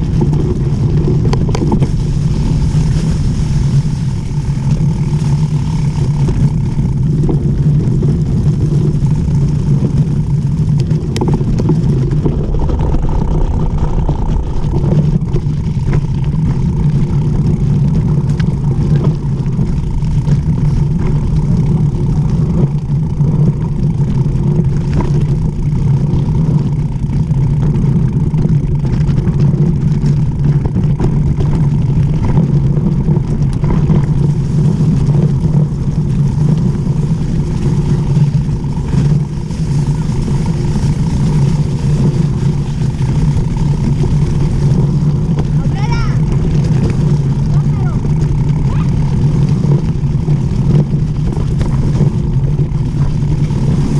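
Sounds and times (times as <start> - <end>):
bike clicks and rattles: 0.0 - 53.9
tyres rolling over slushy dirt: 0.0 - 53.9
wind on microphone: 0.0 - 53.9.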